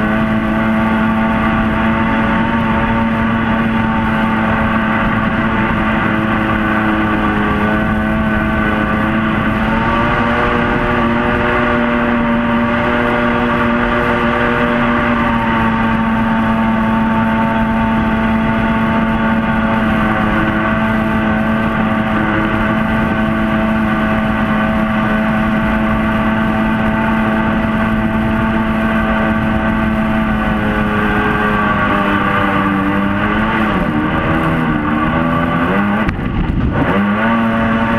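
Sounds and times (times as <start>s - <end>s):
jet boat engine running hard: 0.0s - 37.9s.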